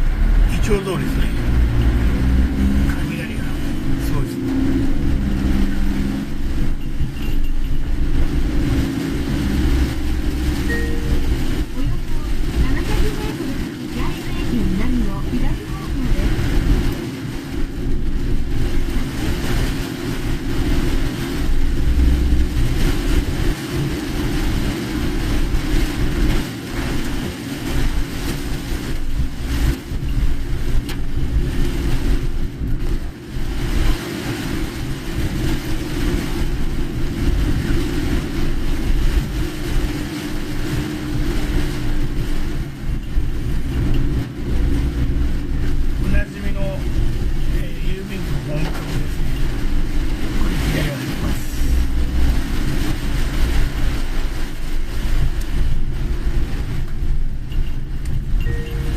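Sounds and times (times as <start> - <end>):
car engine and tyres on wet road: 0.0 - 58.9
rain and spray hissing: 0.0 - 58.9.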